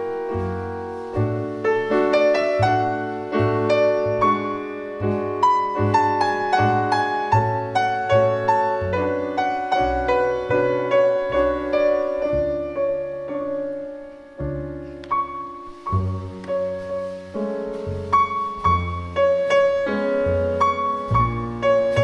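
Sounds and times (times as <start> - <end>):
double bass notes: 0.0 - 22.0
faint cymbal hiss: 0.0 - 22.0
piano melody: 0.0 - 22.0.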